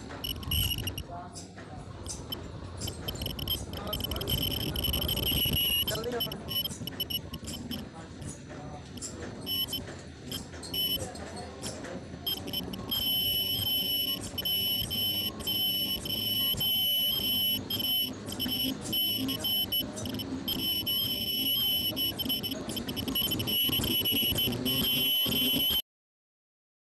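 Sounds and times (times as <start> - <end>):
high-pitched machine tone: 0.0 - 1.1, 2.0 - 8.3, 9.0 - 25.8.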